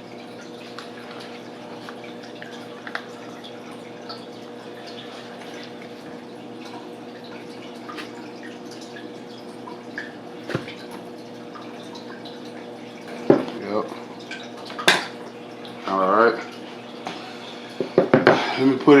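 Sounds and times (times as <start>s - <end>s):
water dripping: 0.0s - 19.0s.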